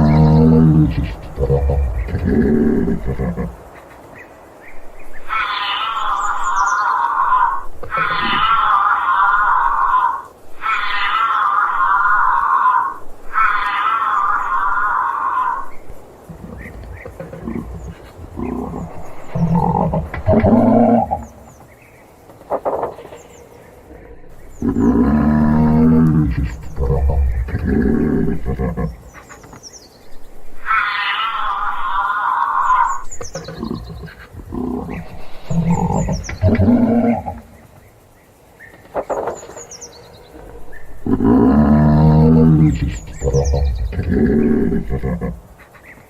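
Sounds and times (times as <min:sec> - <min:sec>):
giraffe low vocal sounds: 0:00.0 - 0:03.8, 0:05.3 - 0:21.7, 0:23.8 - 0:29.4, 0:30.6 - 0:37.7, 0:40.2 - 0:45.8
bird chirping: 0:00.0 - 0:10.0, 0:13.4 - 0:46.0.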